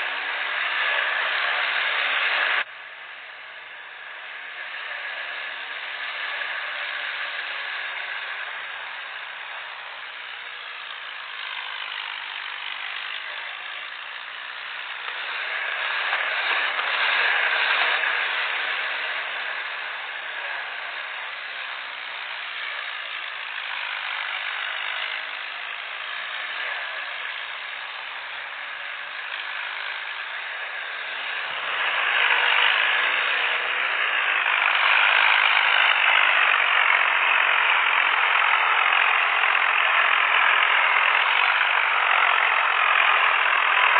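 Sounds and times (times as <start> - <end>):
diesel tractor engines straining: 0.0 - 43.9.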